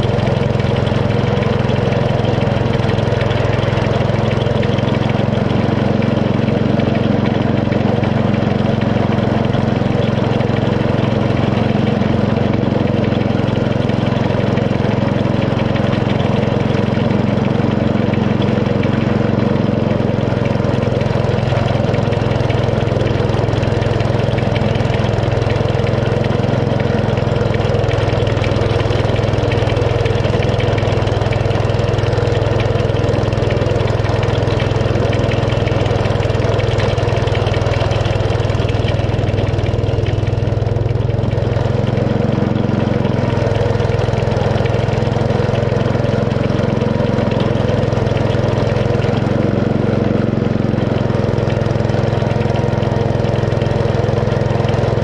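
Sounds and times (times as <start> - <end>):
small petrol engine running: 0.0 - 55.0.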